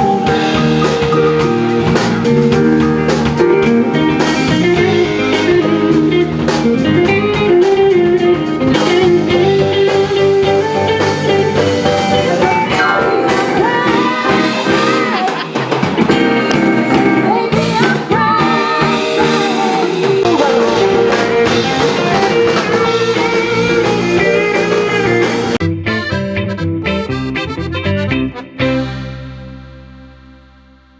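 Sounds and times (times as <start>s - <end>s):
blues song with guitar and singing: 0.0s - 29.6s.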